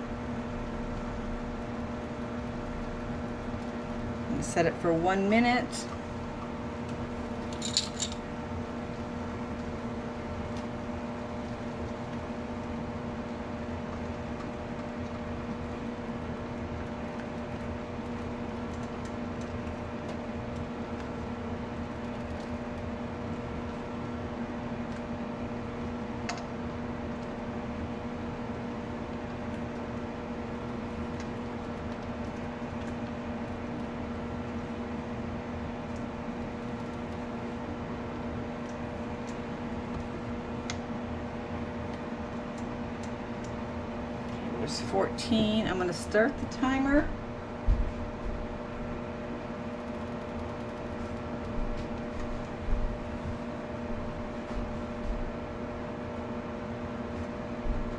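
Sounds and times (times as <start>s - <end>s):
constant low hum: 0.0s - 57.9s
water at a rolling boil: 0.0s - 57.9s.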